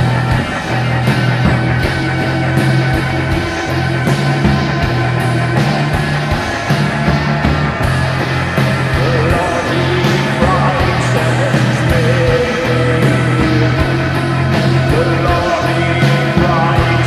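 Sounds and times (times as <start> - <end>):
post-punk rock band music: 0.0 - 17.0.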